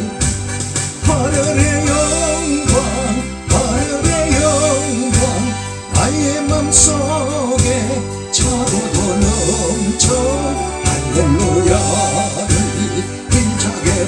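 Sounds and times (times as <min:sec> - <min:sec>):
backing track with pulsing bass: 0:00.0 - 0:14.0
person singing a hymn: 0:01.0 - 0:14.0.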